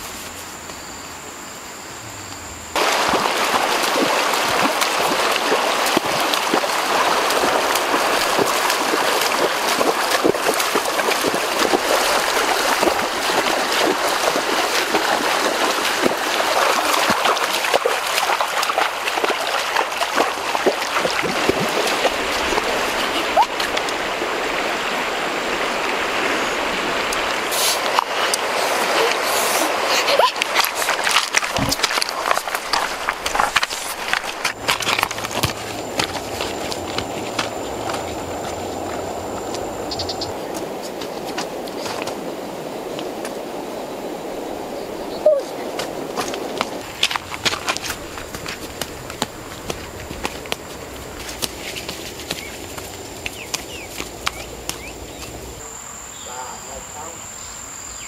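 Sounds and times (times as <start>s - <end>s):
river water rushing: 1.9s - 57.4s.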